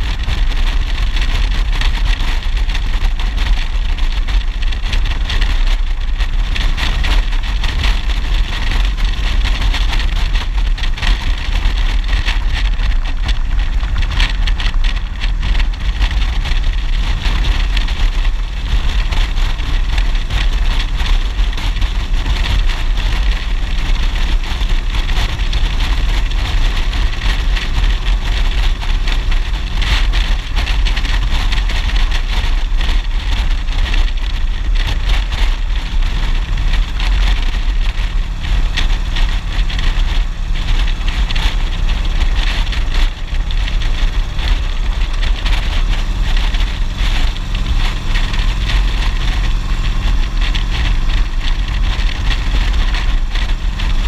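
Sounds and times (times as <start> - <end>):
motorcycle engine drone: 0.0 - 54.0
wind on microphone: 0.0 - 54.0.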